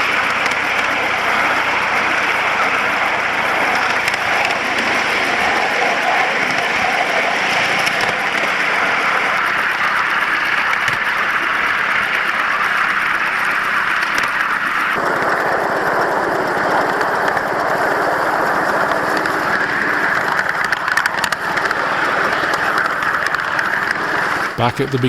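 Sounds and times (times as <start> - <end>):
miniature steam locomotive running: 0.0 - 24.5.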